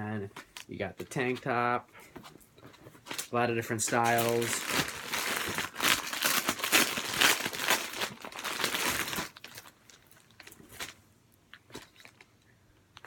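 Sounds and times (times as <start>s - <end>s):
packaging crinkling and rustling: 2.5s - 13.0s.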